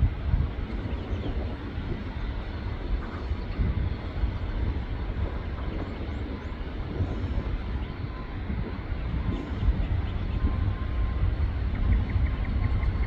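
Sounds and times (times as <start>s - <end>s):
jet engines rumbling: 0.0s - 13.0s
faint steady tones: 0.1s - 13.0s.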